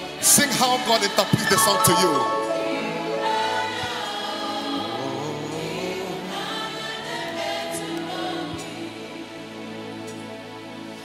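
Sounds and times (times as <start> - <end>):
gospel choir singing: 0.0 - 10.8.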